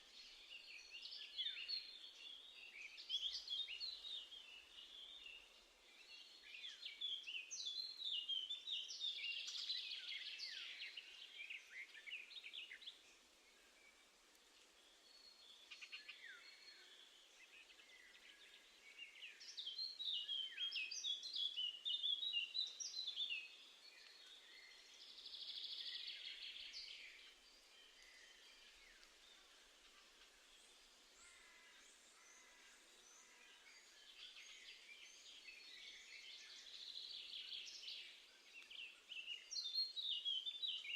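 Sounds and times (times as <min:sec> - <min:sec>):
faint background noise: 0:00.0 - 0:40.9
songbirds chirping: 0:00.0 - 0:40.9.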